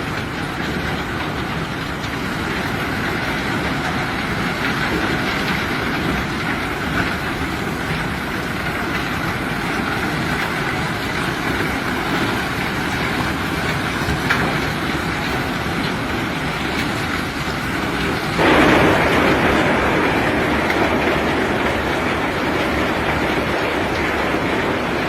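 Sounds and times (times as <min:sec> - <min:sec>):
heavy machinery rumbling: 0:00.0 - 0:25.0.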